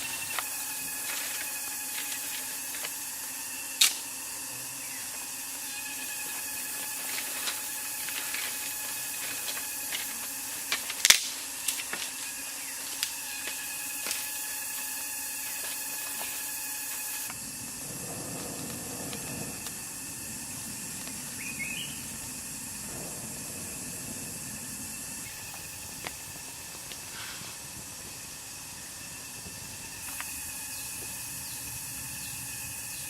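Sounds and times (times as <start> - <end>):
steady hissing noise: 0.0 - 33.0.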